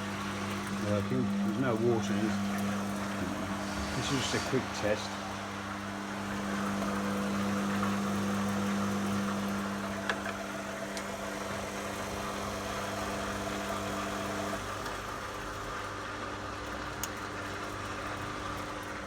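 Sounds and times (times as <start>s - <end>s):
drain pump humming: 0.0s - 19.0s.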